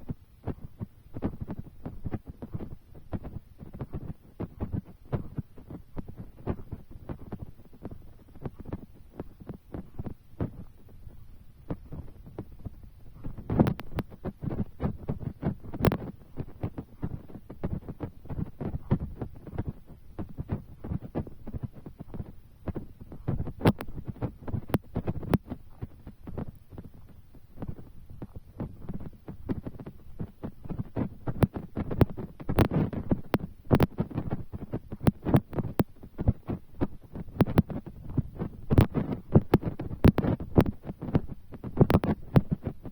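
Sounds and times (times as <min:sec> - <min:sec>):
raindrops tapping on microphone: 0:00.0 - 0:42.9.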